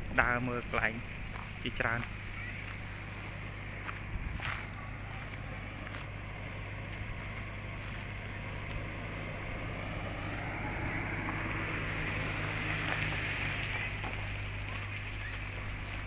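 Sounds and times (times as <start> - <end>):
low engine-like hum: 0.0 - 16.0.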